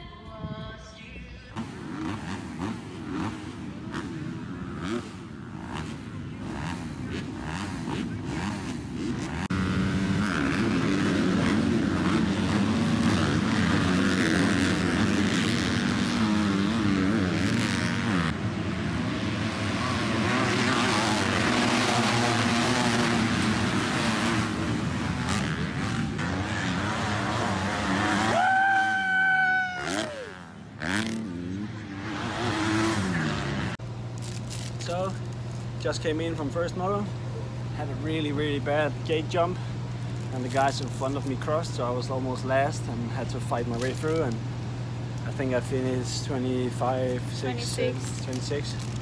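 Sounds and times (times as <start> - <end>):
motocross bike engines revving: 1.6 - 49.0.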